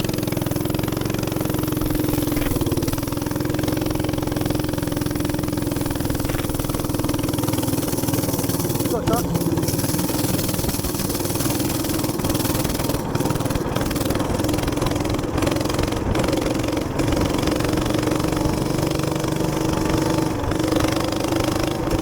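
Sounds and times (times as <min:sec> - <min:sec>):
small engine humming: 0:00.0 - 0:22.0
wind and road noise: 0:00.0 - 0:22.0.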